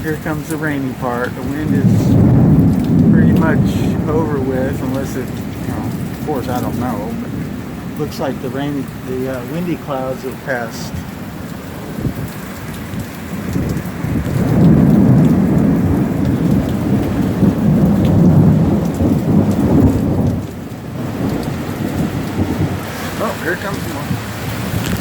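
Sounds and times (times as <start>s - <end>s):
heavy rain: 0.0s - 25.0s
thunder rumbling: 0.0s - 25.0s.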